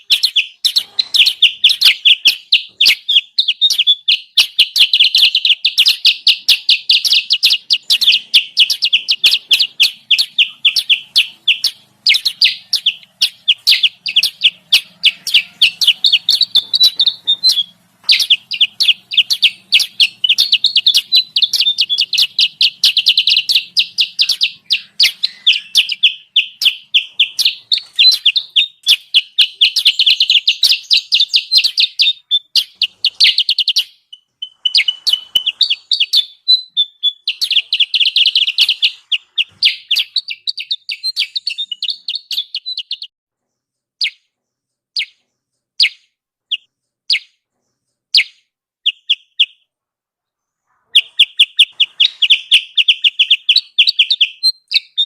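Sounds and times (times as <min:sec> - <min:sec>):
rapid sharp high bird chirps: 0:00.0 - 0:49.7, 0:50.4 - 0:55.0.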